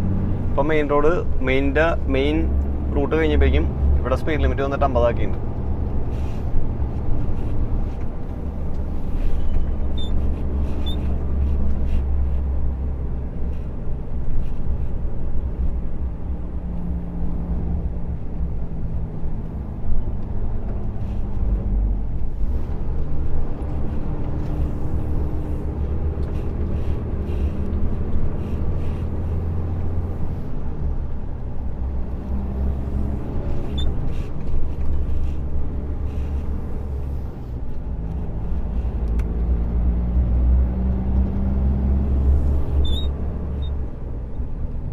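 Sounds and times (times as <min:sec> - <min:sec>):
road noise: 0:00.0 - 0:44.9
truck engine drone: 0:00.0 - 0:44.9.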